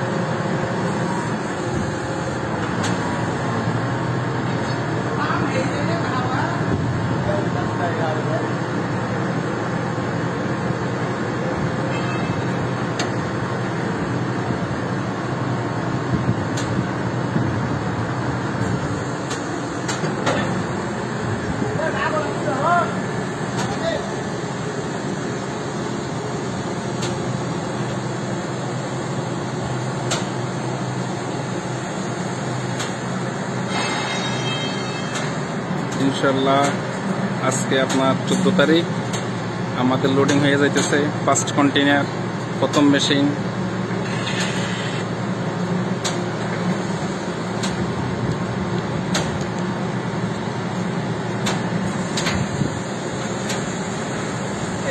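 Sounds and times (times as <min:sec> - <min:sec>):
crane engine and hydraulics droning: 0:00.0 - 0:54.9.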